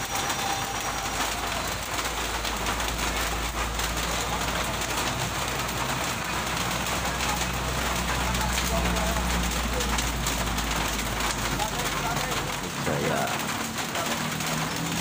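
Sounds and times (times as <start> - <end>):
heavy rain falling: 0.0 - 15.0
truck engine running: 0.0 - 15.0.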